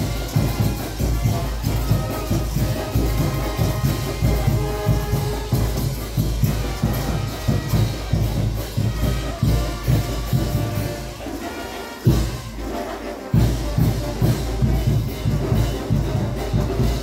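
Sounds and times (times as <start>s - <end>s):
steady drum beat: 0.0s - 17.0s.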